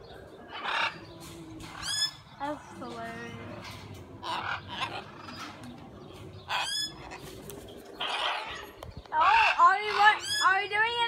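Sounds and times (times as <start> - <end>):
parrots squawking: 0.5 - 11.0.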